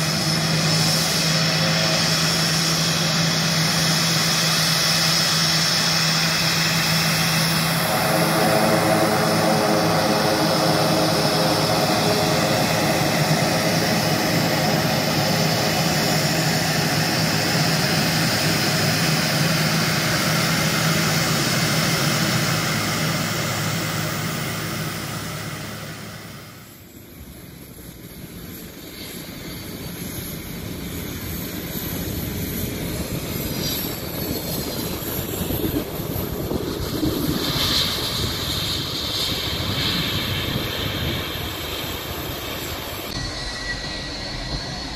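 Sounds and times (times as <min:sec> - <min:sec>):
jet engines roaring: 0:00.0 - 0:44.9
turboprop engines humming: 0:00.0 - 0:44.9.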